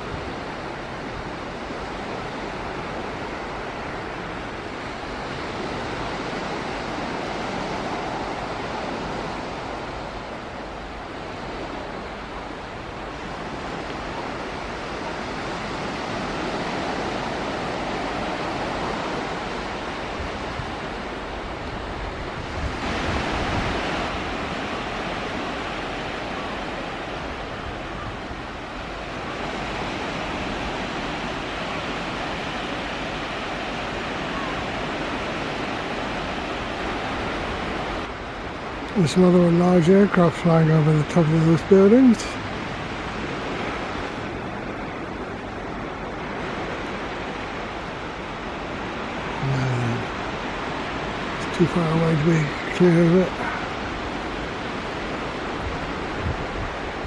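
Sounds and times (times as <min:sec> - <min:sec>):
waves washing onto pebbles: 0:00.0 - 0:57.0
wind blowing across microphone: 0:00.0 - 0:57.0.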